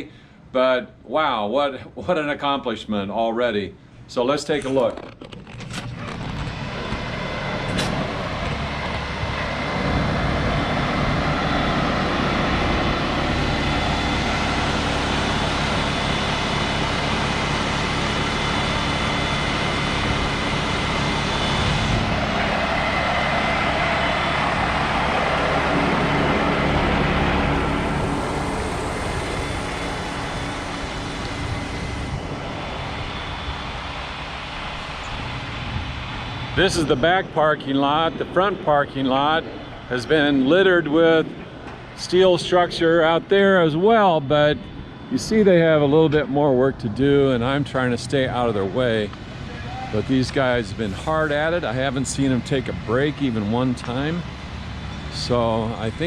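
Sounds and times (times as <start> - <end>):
heavy machinery engine running: 4.8 - 56.0.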